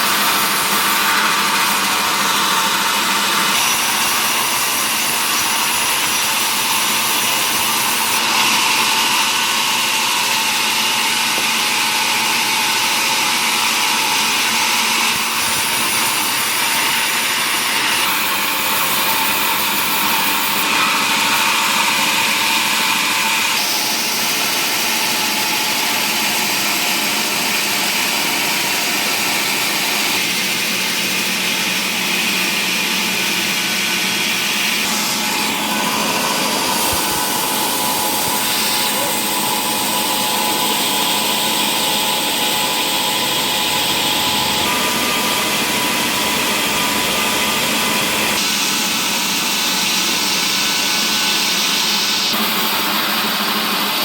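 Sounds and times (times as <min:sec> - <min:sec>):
woodworking machine whirring: 0:00.0 - 0:54.0.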